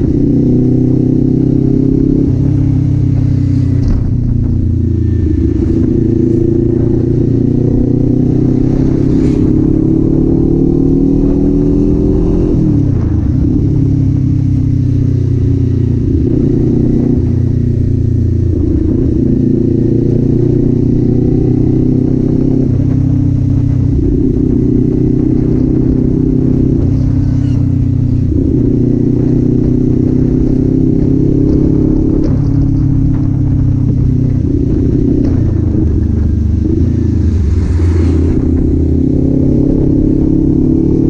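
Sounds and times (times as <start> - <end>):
motorcycle engine and exhaust running: 0.0 - 41.0.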